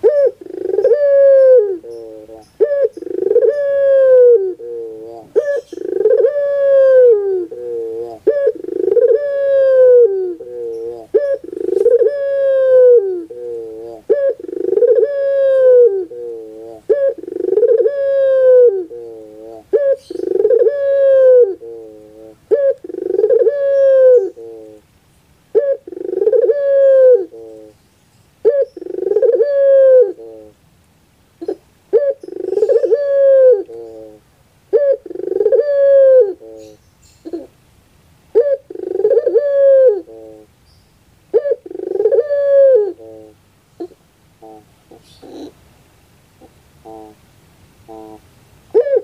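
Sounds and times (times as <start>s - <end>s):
dove cooing: 0.0s - 24.8s, 25.5s - 27.8s, 28.4s - 30.6s, 31.4s - 37.6s, 38.3s - 40.5s, 41.3s - 45.6s, 46.4s - 47.2s, 47.8s - 49.0s.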